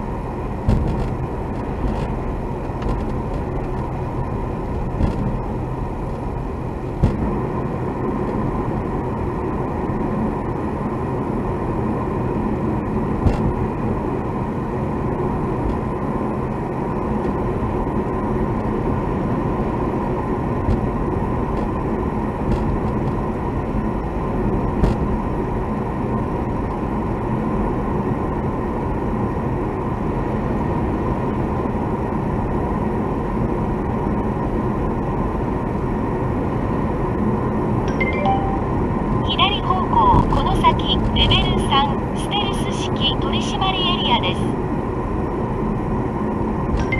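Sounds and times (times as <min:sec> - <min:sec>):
road and engine rumble: 0:00.0 - 0:46.9.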